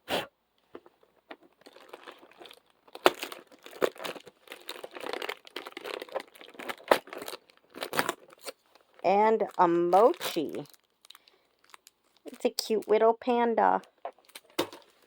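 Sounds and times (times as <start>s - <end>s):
packaging crinkling and tearing: 0.7s - 13.0s, 13.8s - 15.0s.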